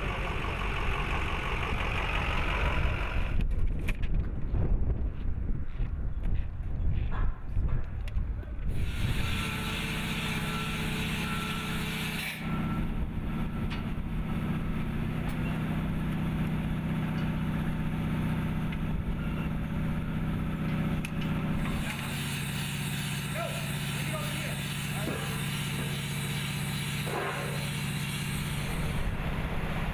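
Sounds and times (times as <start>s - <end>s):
engine humming: 0.0s - 4.7s, 8.6s - 29.9s.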